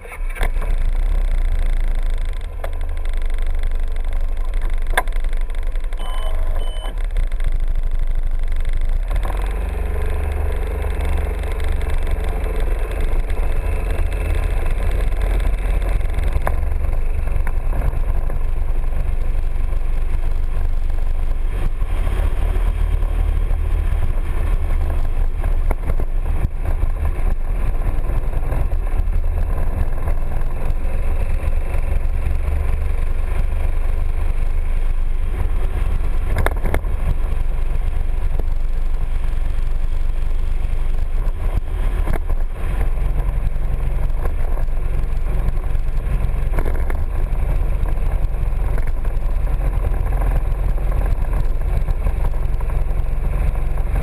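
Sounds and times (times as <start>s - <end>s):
scooter engine running: 0.0s - 54.0s
wind rumble on microphone: 0.0s - 54.0s.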